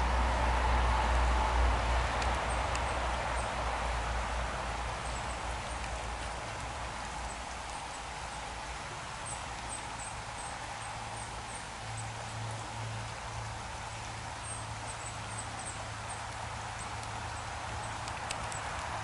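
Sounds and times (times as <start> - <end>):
stream rippling over gravel: 0.0 - 19.0.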